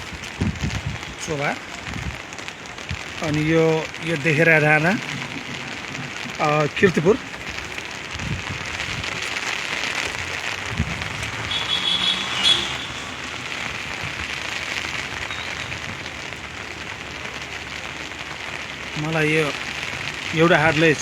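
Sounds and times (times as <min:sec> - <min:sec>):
rain pattering on an umbrella: 0:00.0 - 0:21.0.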